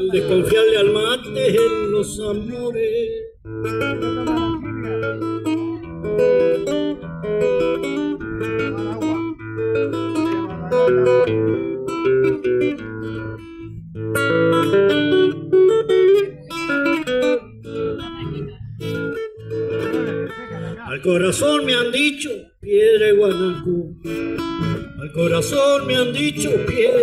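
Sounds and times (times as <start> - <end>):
solo acoustic guitar: 0.0 - 27.0.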